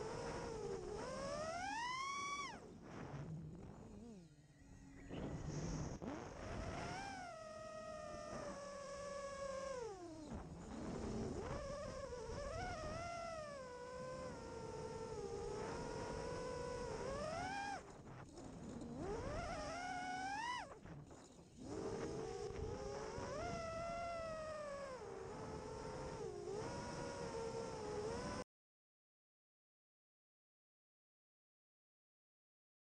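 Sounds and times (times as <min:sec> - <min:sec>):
drone motors whining: 0:00.0 - 0:28.4.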